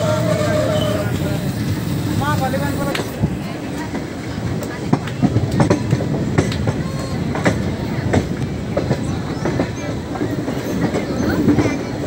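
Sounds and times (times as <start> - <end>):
train wheels rumbling on rails: 0.0 - 12.0
wheels clicking on rail joints: 0.0 - 12.0.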